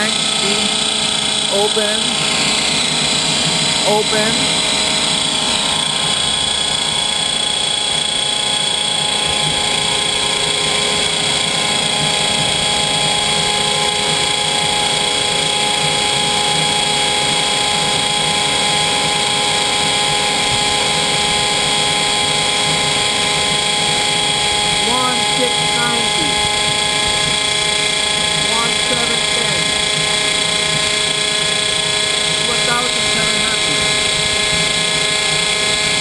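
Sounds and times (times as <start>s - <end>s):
gas turbine whining: 0.0s - 36.0s.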